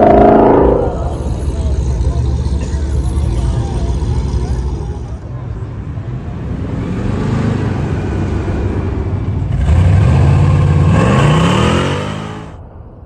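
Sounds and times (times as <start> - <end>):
car engines driving past: 0.0 - 13.0.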